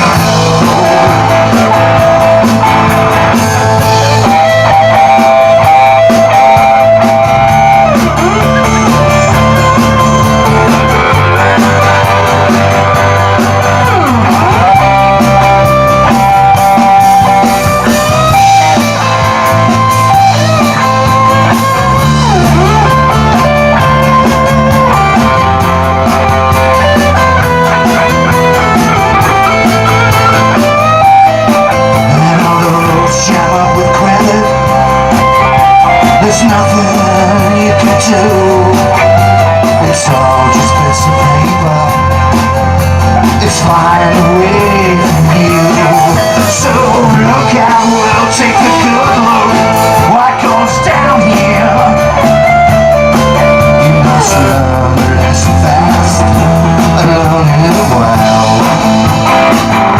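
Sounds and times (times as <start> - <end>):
bass guitar: 0.0 - 59.9
drums: 0.0 - 59.9
electric guitar lead: 0.0 - 59.9.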